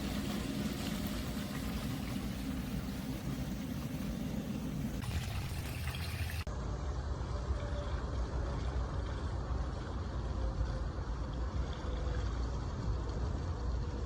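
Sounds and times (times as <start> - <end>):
fountain water pouring into pool: 0.0 - 6.5, 8.0 - 14.0.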